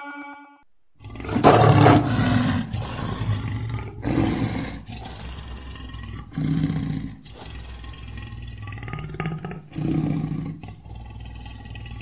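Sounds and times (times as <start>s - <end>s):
lion roaring: 1.0s - 12.0s.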